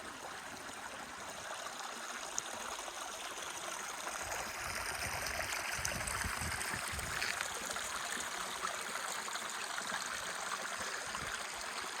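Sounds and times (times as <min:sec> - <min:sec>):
creek water trickling over rocks: 0:00.0 - 0:12.0.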